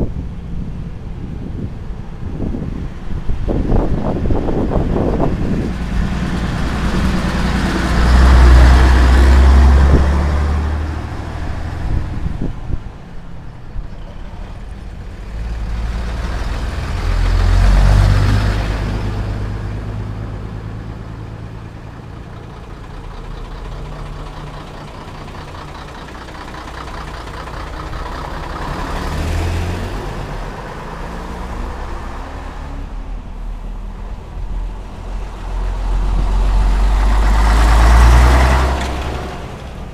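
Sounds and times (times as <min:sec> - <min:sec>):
steady engine drone: 0:00.0 - 0:39.9
trucks driving past: 0:00.0 - 0:39.9.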